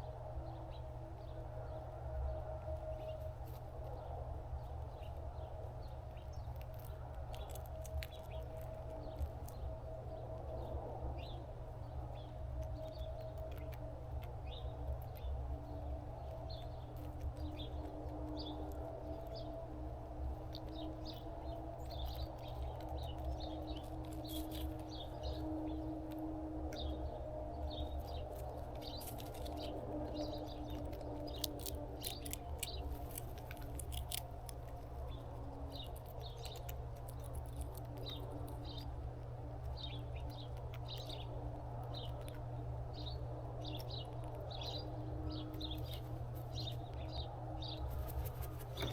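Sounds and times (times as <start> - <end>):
small birds chirping: 0.0 - 48.9
steady low hum: 0.0 - 48.9.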